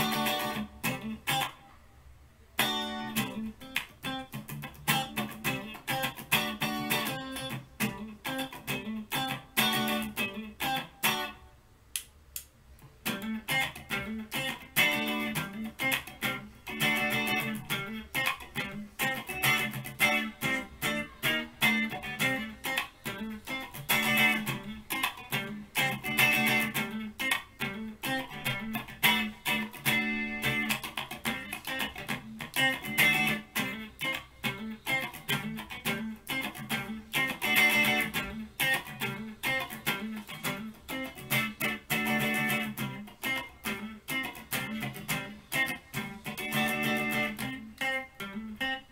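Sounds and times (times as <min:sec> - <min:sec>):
electric guitar solo: 0:00.0 - 0:01.8, 0:02.6 - 0:11.4, 0:13.0 - 0:48.9.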